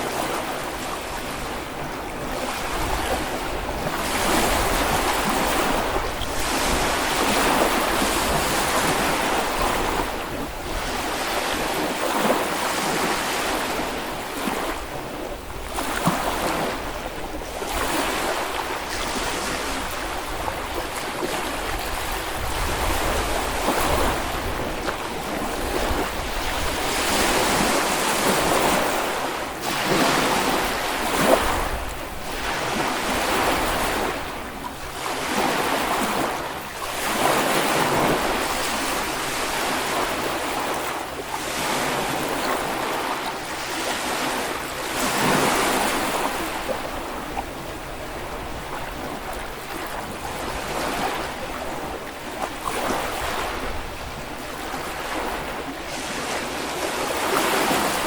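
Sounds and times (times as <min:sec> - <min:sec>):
small waves washing on sand: 0:00.0 - 0:58.0.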